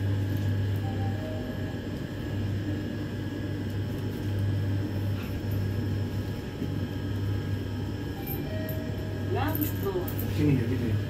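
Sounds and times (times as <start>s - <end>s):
elevator hum and air rush: 0.0s - 11.0s.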